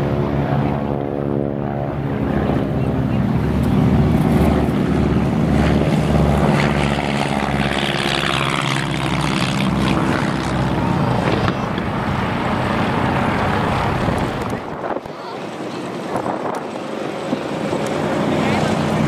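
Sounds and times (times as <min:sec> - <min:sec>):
propeller aircraft engines: 0:00.0 - 0:19.0.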